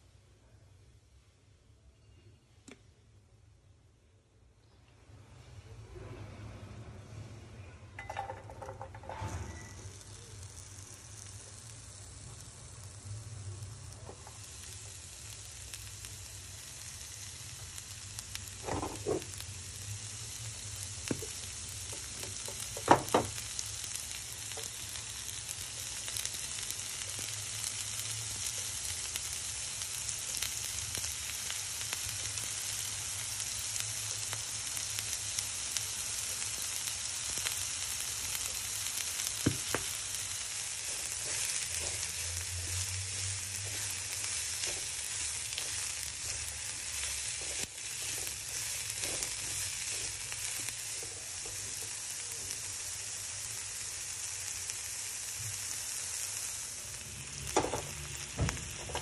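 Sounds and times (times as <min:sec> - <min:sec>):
vegetables sizzling in a pan: 0:08.0 - 0:59.0.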